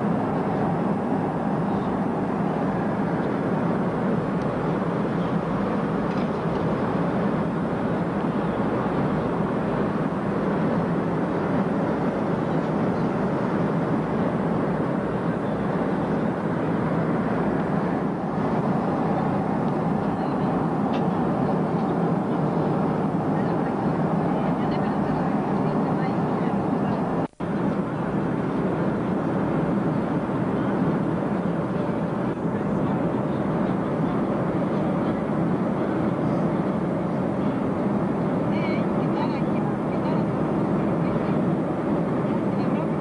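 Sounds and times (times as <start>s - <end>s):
airliner cabin noise: 0.0s - 43.0s.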